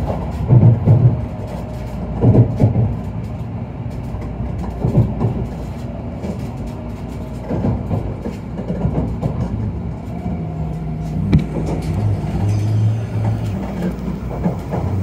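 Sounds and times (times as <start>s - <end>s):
train running rumble: 0.0s - 15.0s
wheels thumping over track: 0.0s - 15.0s.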